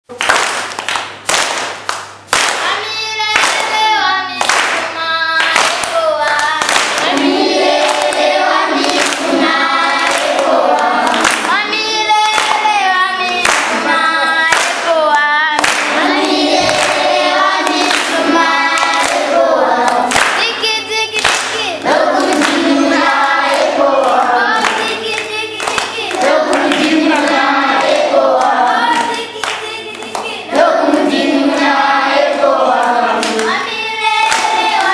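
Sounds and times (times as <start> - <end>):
hand clapping beat: 0.1 - 33.6, 34.2 - 34.9
children singing in chorus: 2.7 - 34.9.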